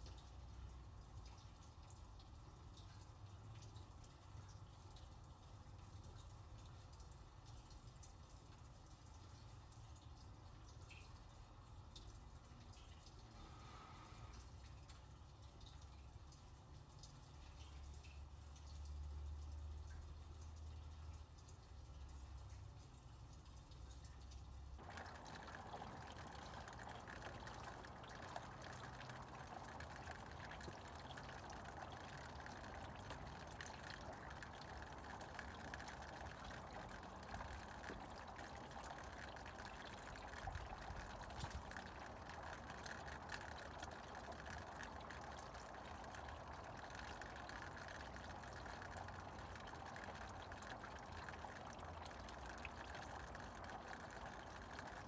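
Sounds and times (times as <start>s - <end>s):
drops ticking and splashing: 0.0s - 55.0s
water trickling: 0.0s - 55.0s.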